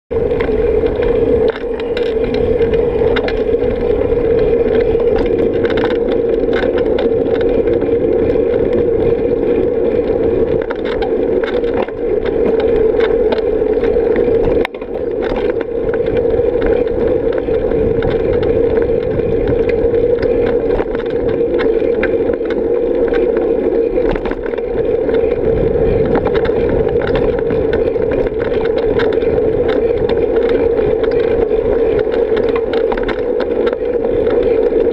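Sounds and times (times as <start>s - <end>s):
bike rattles and clicks: 0.1s - 34.9s
wind and riding noise: 0.1s - 34.9s.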